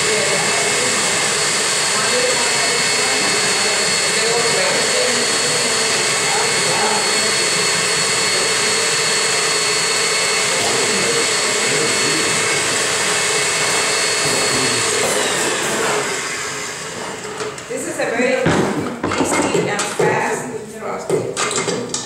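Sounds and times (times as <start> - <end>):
stand mixer motor whine: 0.0 - 19.9.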